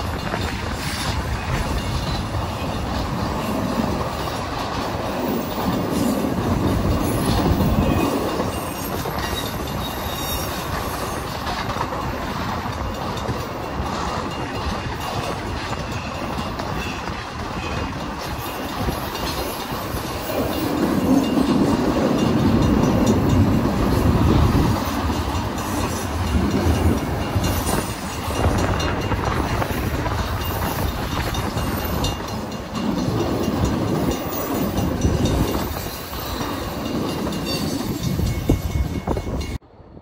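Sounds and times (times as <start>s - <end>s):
wheels clacking over rails: 0.0s - 39.6s
freight train passing: 0.0s - 40.0s.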